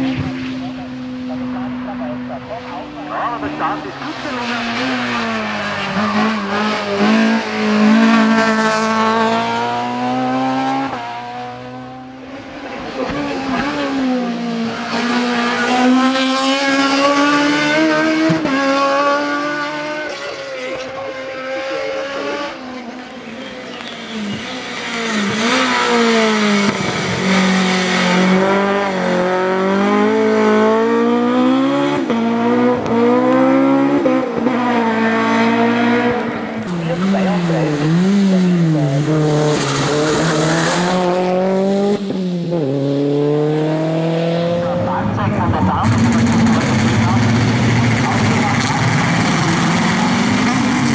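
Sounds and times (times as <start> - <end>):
racing car engine accelerating: 0.0 - 50.9.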